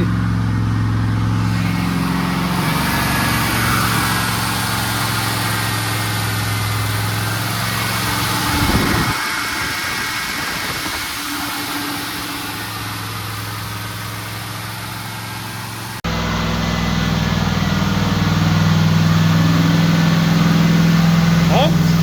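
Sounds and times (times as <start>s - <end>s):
car engine running at raised revs: 0.0s - 22.0s.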